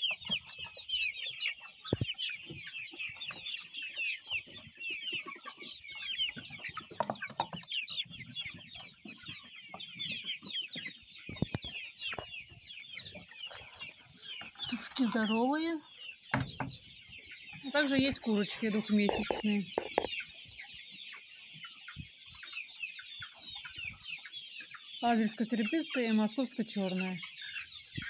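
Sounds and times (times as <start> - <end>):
chickens cheeping: 0.0 - 28.0.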